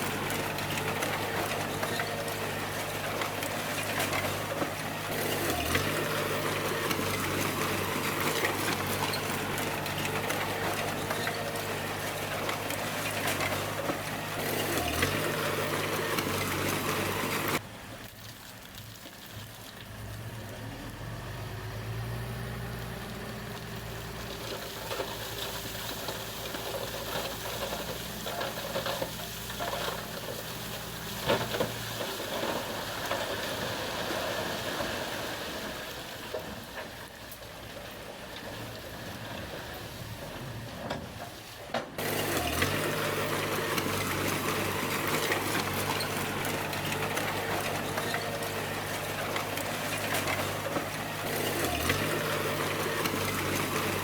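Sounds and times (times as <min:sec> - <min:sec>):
bulldozer diesel engine running: 0:00.0 - 0:17.9, 0:20.0 - 0:54.0.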